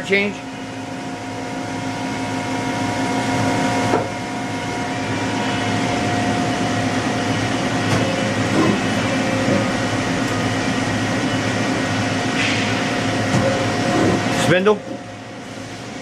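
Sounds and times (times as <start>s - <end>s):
machine motors humming and whining: 0.0s - 16.0s.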